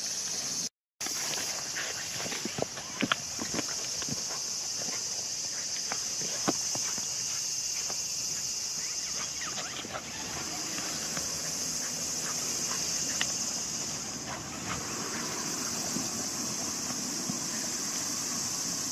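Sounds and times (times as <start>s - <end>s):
steady high hiss: 0.0s - 18.9s.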